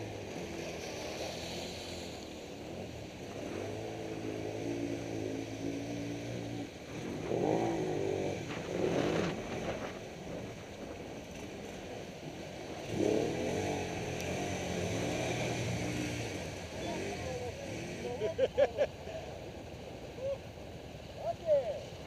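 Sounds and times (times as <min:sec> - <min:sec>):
quad bike engines revving: 0:00.0 - 0:19.4.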